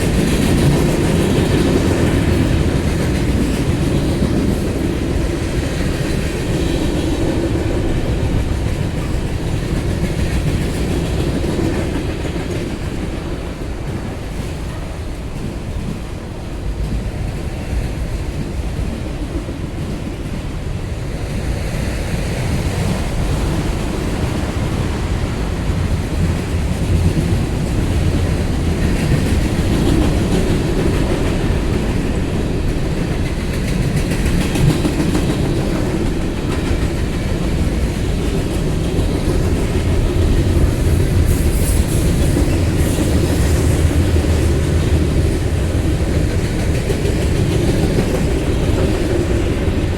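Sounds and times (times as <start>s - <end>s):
freight train wheels rumbling on rail: 0.0s - 49.9s.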